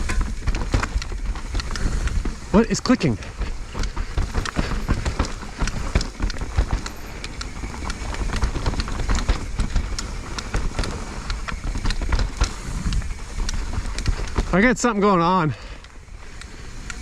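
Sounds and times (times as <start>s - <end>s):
bike rattling: 0.0s - 17.0s
sharp clicks from bike: 0.0s - 17.0s
tyres rumbling over dirt: 0.0s - 17.0s.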